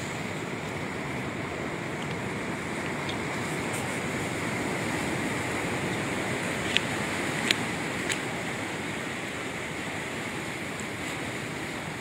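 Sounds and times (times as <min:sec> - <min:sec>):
sea surf: 0:00.0 - 0:12.0.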